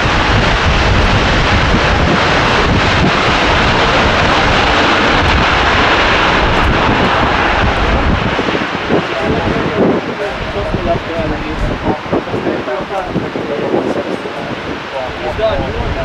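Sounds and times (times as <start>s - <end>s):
loud jet engine noise: 0.0s - 16.0s.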